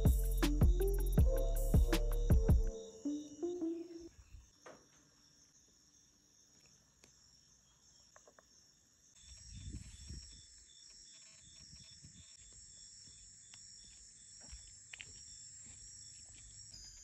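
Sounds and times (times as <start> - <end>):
insects trilling: 0.0 - 17.0
pulsing insect chirp: 0.0 - 17.0.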